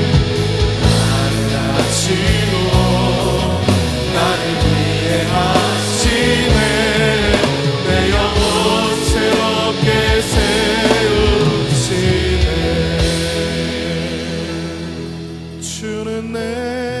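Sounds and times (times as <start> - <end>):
people singing: 0.0 - 17.0
worship band playing: 0.0 - 17.0.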